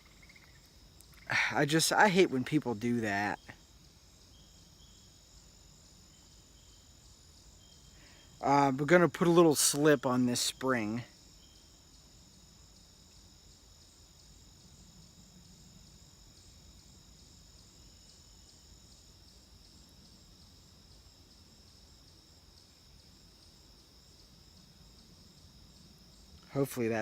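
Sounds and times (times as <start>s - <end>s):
crickets chirring: 0.0s - 27.0s
low background noise: 0.0s - 27.0s.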